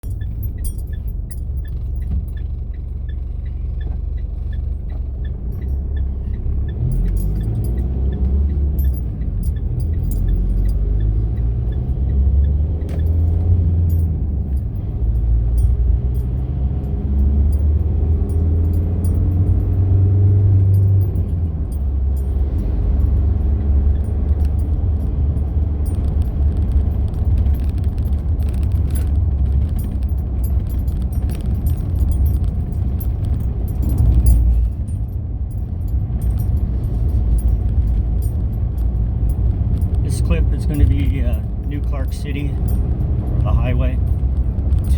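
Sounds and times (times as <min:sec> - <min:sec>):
light rattling clicks: 0:00.0 - 0:44.9
vehicle road rumble: 0:00.0 - 0:44.9.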